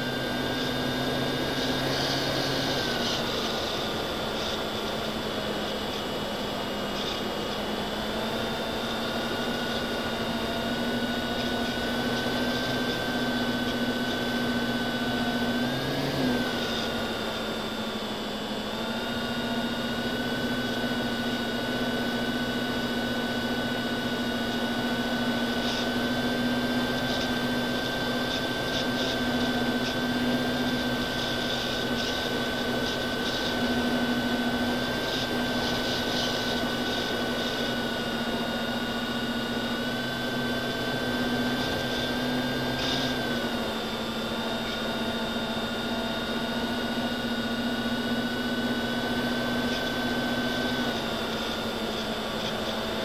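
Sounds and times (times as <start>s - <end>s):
quadcopter motors whining: 0.0s - 53.0s.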